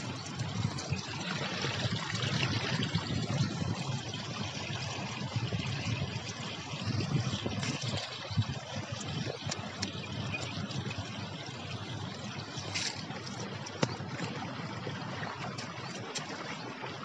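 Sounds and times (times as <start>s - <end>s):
low uneven rumble: 0.0s - 17.0s
water trickling over stone steps: 0.0s - 17.0s.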